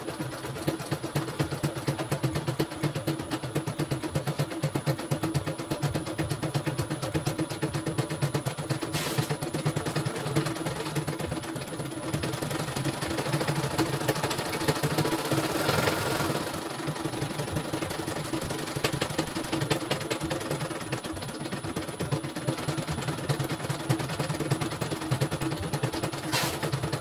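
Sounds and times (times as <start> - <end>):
motor hum: 0.0 - 27.0.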